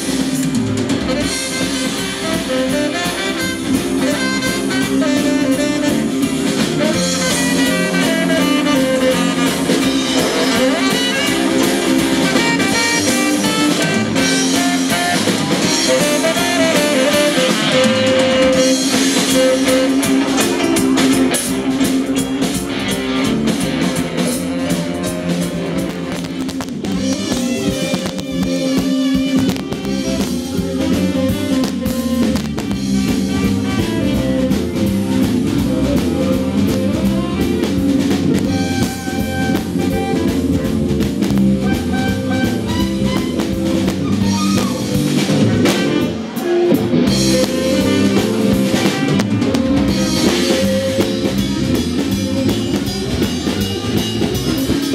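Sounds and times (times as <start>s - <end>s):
drum kit beating: 0.0s - 54.9s
electric guitar: 0.0s - 54.9s.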